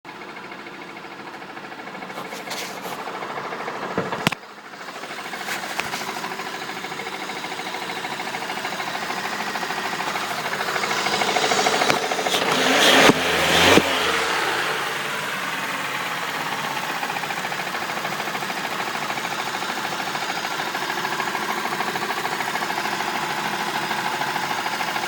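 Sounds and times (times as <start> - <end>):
car engine knocking: 0.1 - 25.0.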